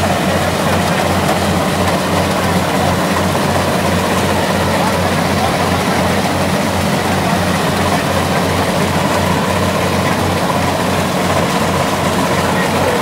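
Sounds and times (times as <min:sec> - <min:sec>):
harvester engine droning: 0:00.0 - 0:13.0
working machinery noise: 0:00.0 - 0:13.0.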